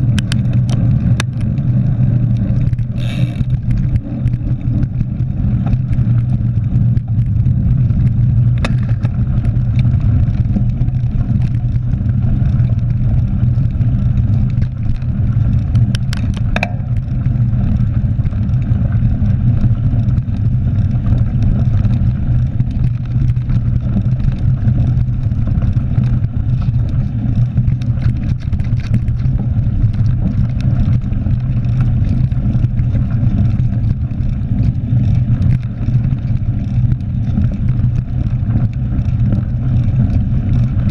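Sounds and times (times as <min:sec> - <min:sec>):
short clicks and rattles: 0:00.0 - 0:06.3, 0:08.0 - 0:40.9
bike tyres rolling over gravel: 0:00.0 - 0:40.9
wind on camera microphone: 0:00.0 - 0:40.9.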